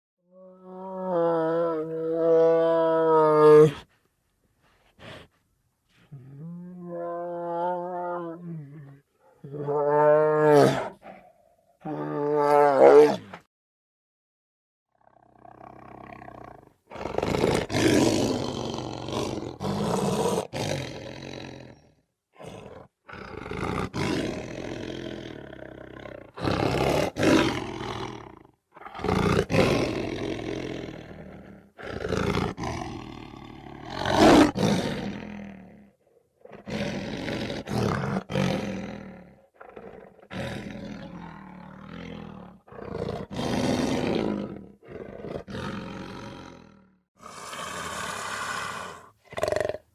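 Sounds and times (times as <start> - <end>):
big cats roaring: 6.2 - 13.4, 15.0 - 21.8, 22.4 - 49.9.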